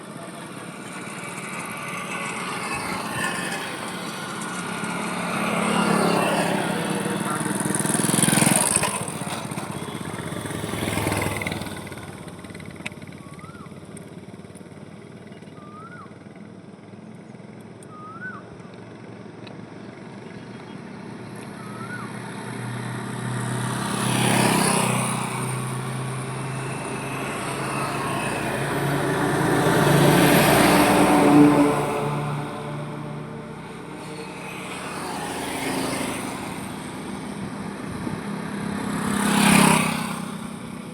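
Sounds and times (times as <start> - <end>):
vehicles passing by: 0.0 - 40.9.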